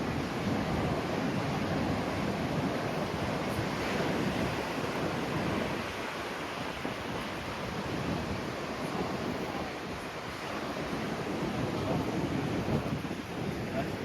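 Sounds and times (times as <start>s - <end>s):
surf washing onto shore: 0.0s - 14.0s
wind buffeting microphone: 0.0s - 14.0s.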